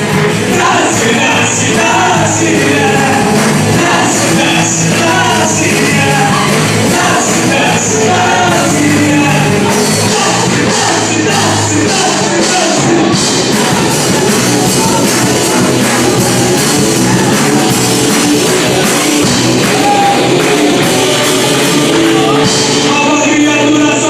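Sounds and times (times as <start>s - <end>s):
drum kit: 0.0s - 24.0s
people singing: 0.0s - 24.0s
rock band playing: 0.0s - 24.0s.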